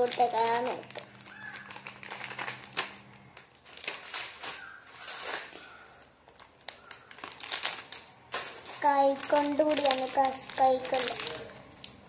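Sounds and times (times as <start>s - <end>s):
wrappers crinkling and rustling: 0.0s - 12.0s.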